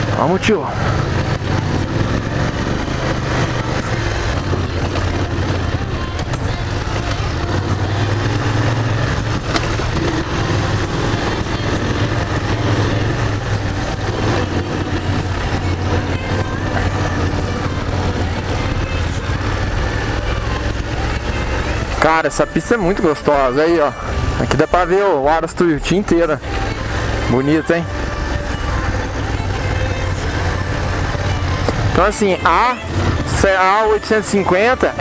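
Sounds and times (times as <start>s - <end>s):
motorcycle engine running: 0.0s - 35.0s
road noise: 0.0s - 35.0s.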